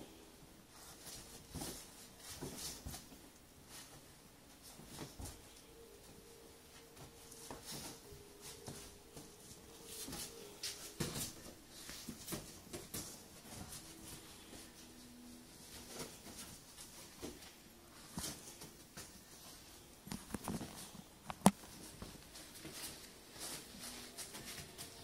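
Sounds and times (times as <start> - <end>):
dogs rustling on a dog bed: 0.7 - 21.0, 21.6 - 25.0.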